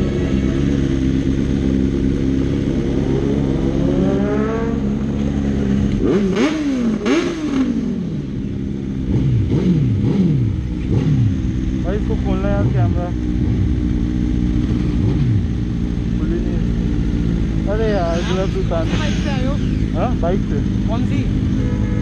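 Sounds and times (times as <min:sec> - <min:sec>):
motorcycle engines running: 0:00.0 - 0:22.0.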